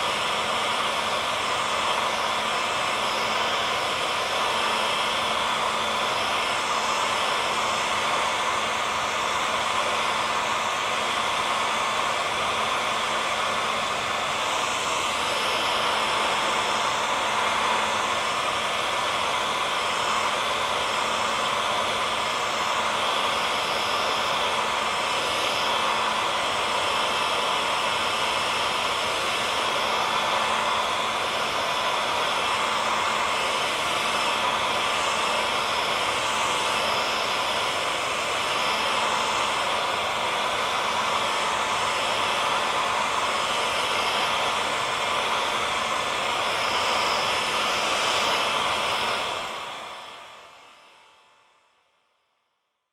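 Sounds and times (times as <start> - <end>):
hair dryer running: 0.0 - 52.2.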